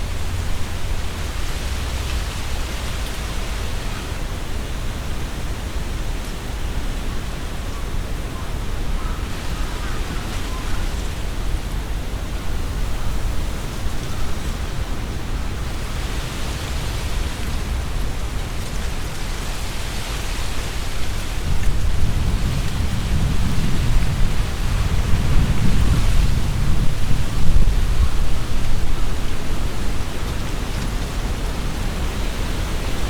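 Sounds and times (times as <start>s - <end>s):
leaves rustling in wind: 0.0s - 33.0s
wind buffeting microphone: 0.0s - 33.0s.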